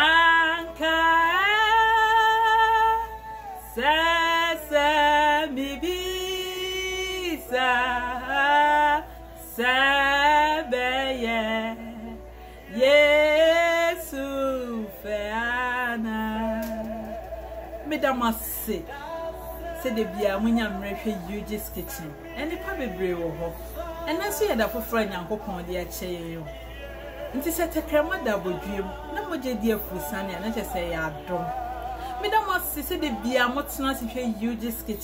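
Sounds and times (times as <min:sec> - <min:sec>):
woman singing: 0:00.0 - 0:35.0.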